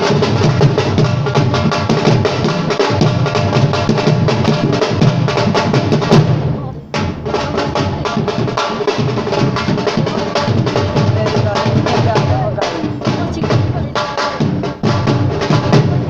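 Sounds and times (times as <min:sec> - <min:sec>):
fast drum strokes and rolls: 0:00.0 - 0:16.0.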